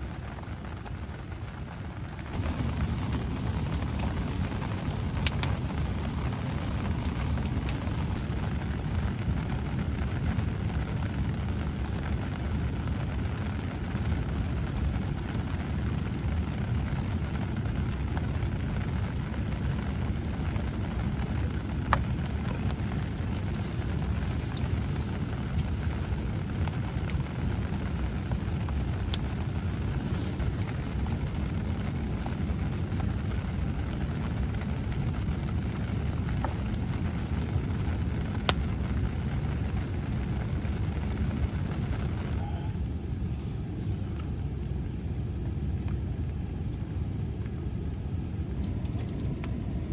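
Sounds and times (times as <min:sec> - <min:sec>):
campfire low rumble: 0:00.0 - 0:49.9
wood popping in fire: 0:00.0 - 0:49.9.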